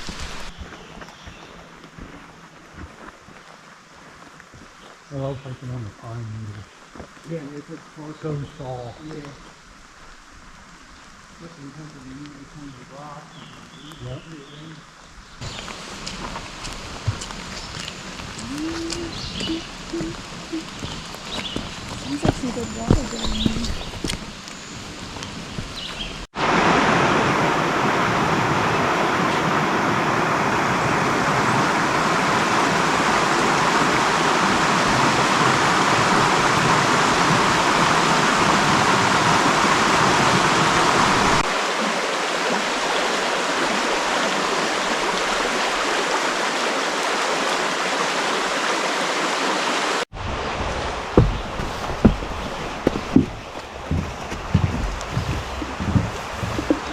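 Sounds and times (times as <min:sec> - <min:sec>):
creek water rushing over rocks: 0:00.0 - 0:05.0, 0:06.7 - 0:56.9.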